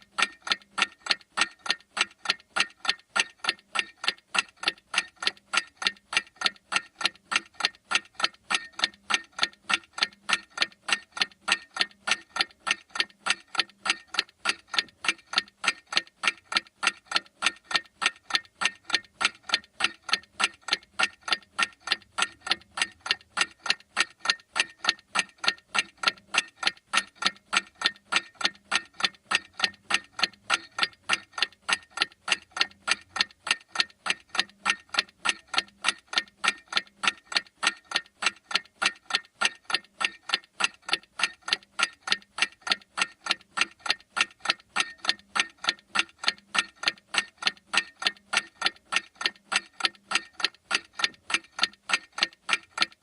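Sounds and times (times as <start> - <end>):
clock ticking fast: 0.0 - 53.0.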